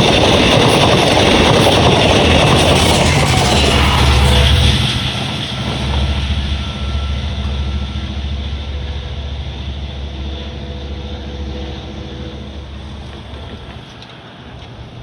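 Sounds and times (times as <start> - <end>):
diesel train engine hum: 0.0 - 15.0
train rolling noise: 0.0 - 15.0.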